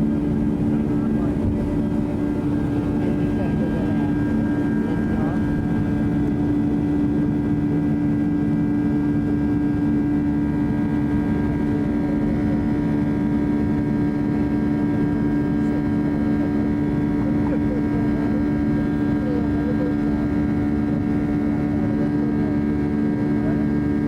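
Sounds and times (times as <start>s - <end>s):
jet engines droning in cabin: 0.0s - 24.0s.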